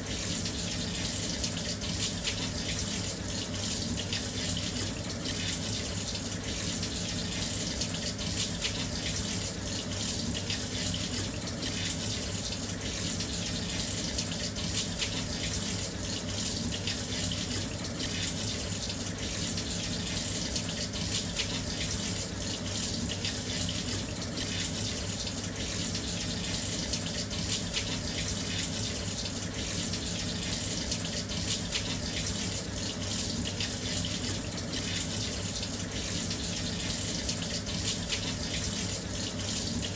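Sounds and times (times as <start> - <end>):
water pouring into drum: 0.0 - 39.9.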